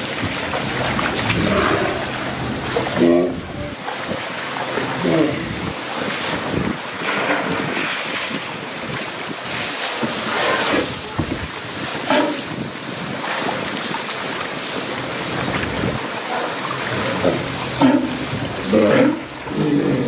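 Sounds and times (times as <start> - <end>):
rushing water: 0.0 - 20.0
wind on microphone: 0.0 - 20.0.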